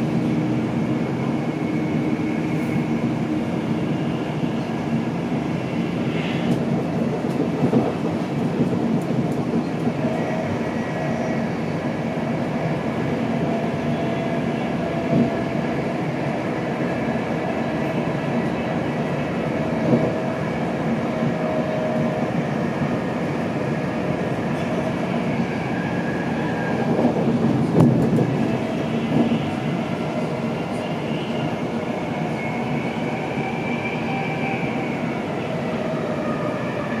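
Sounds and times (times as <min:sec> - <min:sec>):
train coach rumble at speed: 0:00.0 - 0:37.0.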